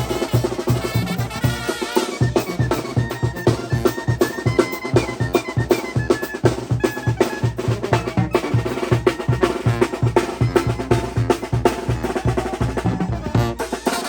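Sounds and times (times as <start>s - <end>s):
bass drum and snare beat: 0.0s - 14.0s
wind band playing lively tune: 0.0s - 14.0s.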